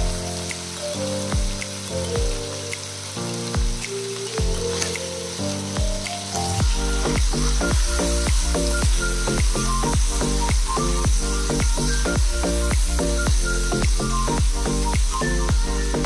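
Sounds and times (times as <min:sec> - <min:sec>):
background music with deep drum beat: 0:00.0 - 0:16.0
meat sizzling in oil: 0:00.0 - 0:16.0.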